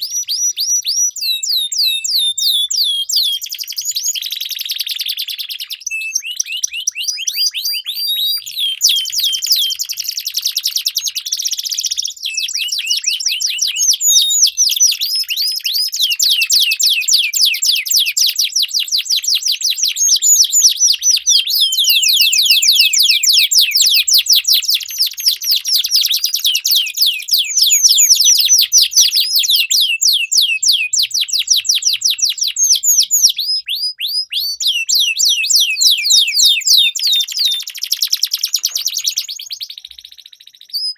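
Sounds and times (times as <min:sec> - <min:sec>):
canaries singing: 0:00.0 - 0:40.9.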